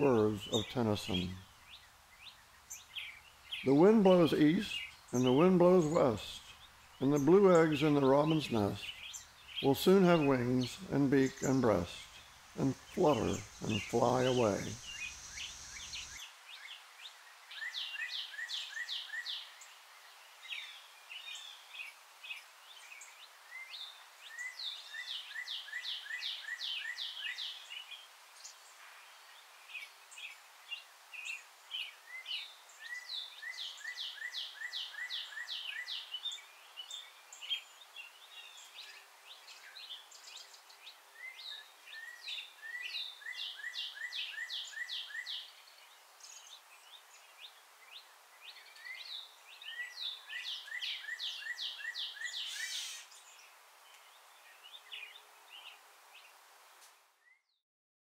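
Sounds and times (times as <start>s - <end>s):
faint background hiss: 0.0s - 57.6s
songbirds calling: 0.0s - 57.6s.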